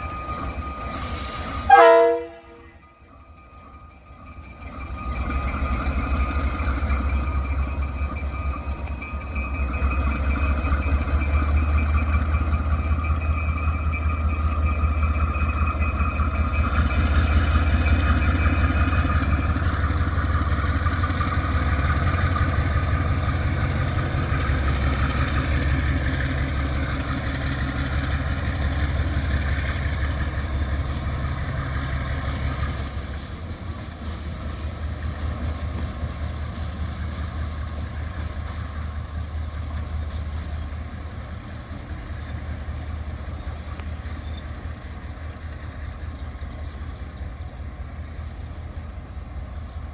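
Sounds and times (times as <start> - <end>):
locomotive engine droning: 0.0 - 49.9.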